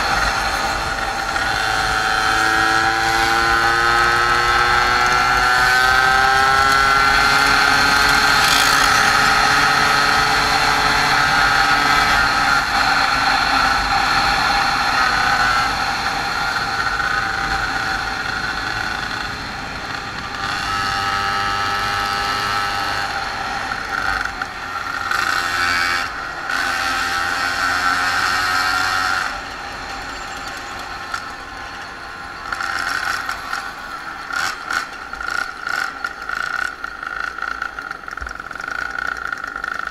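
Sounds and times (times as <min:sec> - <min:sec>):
moped engines running: 0:00.0 - 0:39.9.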